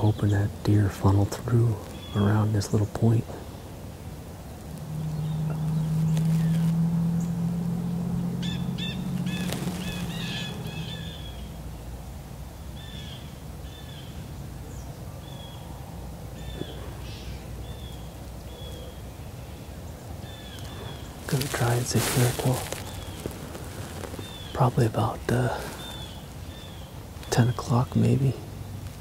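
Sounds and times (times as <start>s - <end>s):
bird calling: 0.0s - 12.0s, 12.6s - 29.0s
low drone: 0.0s - 28.7s.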